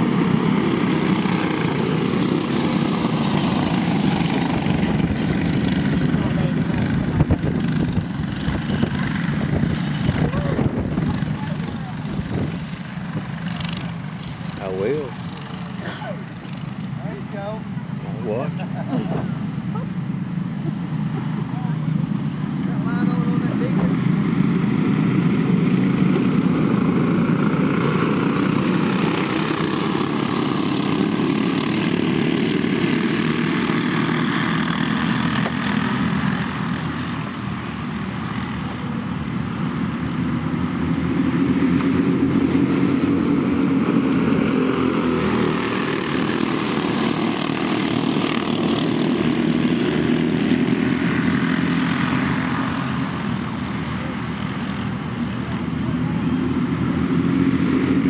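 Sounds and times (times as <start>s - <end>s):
racing kart engines: 0.0s - 58.0s.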